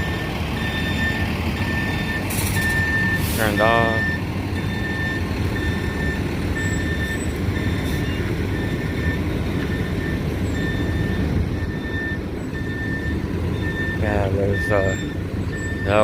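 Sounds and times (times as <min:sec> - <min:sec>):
idling engine rumble: 0:00.0 - 0:16.0
vehicle backup alarm beeping: 0:00.0 - 0:16.0.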